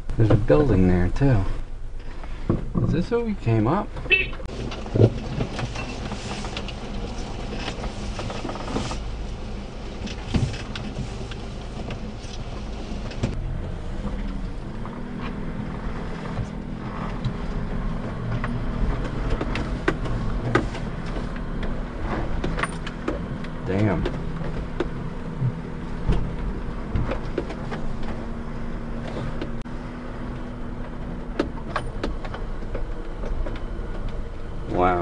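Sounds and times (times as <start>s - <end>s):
knocks and rattles of truck: 0.0s - 35.0s
small truck engine running: 3.4s - 35.0s.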